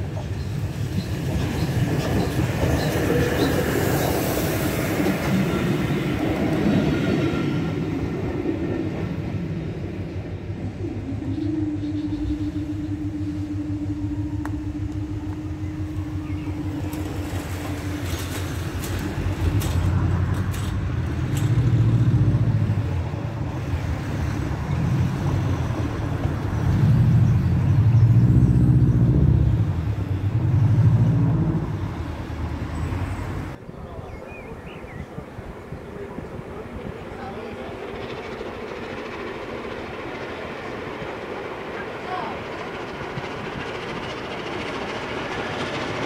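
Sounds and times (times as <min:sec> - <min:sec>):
low steady train hum: 0:00.0 - 0:46.0
low train rumbling: 0:00.0 - 0:46.0.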